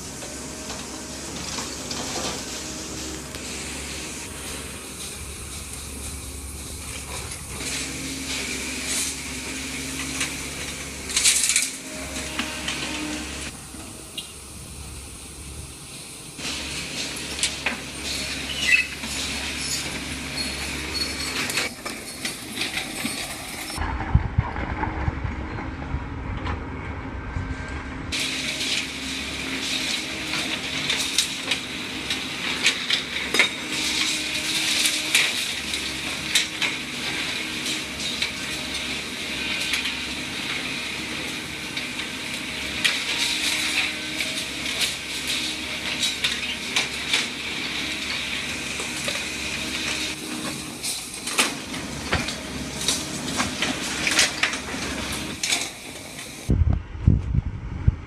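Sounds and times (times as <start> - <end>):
demolition machinery clattering: 0.0 - 57.2.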